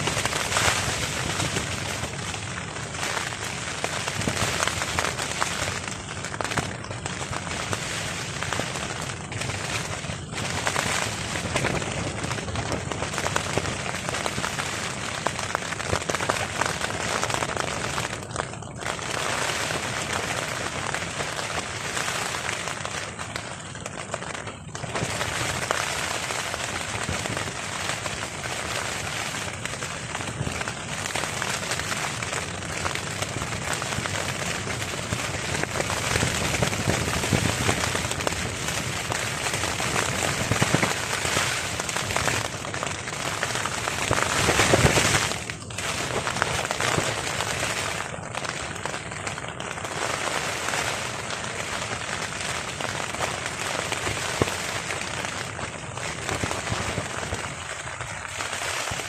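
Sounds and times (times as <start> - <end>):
heavy rain drumming on a tarp: 0.0 - 59.0.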